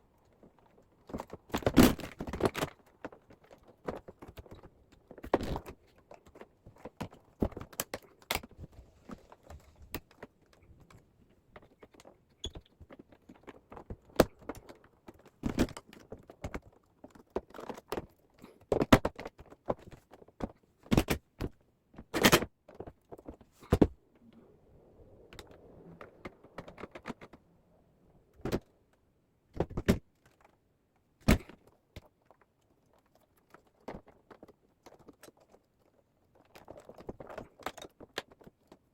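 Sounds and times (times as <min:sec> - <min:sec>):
plastic parts clicking and rattling: 0:00.0 - 0:24.4, 0:25.0 - 0:38.9
quiet rustling: 0:02.7 - 0:38.9.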